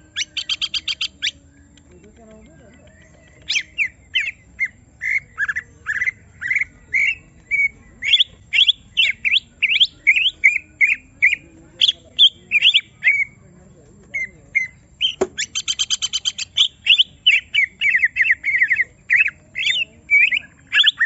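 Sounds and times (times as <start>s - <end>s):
bird chattering song: 0.0s - 21.0s.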